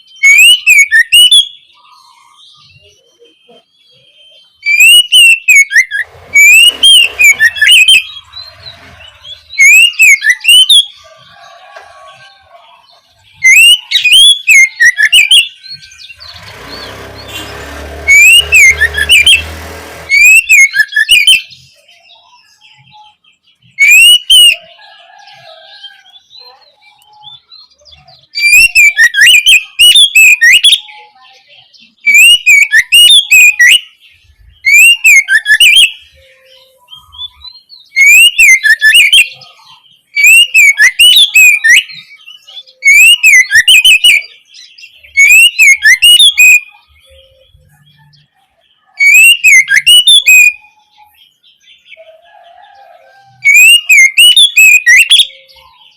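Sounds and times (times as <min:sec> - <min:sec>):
bird singing whistled notes: 0:00.0 - 0:55.9.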